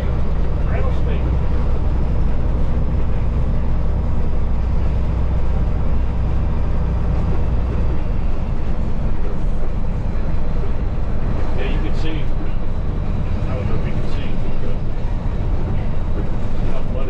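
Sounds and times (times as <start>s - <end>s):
diesel truck engine drone: 0.0s - 17.0s
road noise on dirt road: 0.0s - 17.0s.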